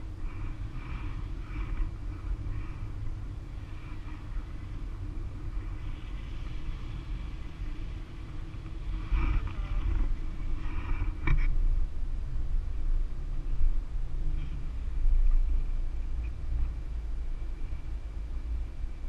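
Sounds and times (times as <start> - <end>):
faint rustles: 0.0 - 19.0
wind buffeting microphone: 0.0 - 19.0.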